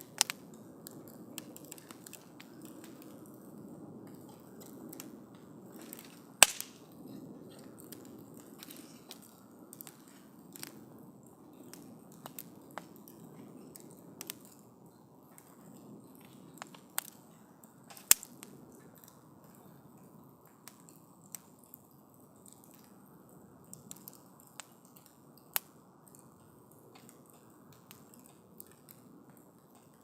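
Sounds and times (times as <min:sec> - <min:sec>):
campfire crackling and popping: 0:00.0 - 0:30.0
low rush of burning: 0:00.0 - 0:30.0.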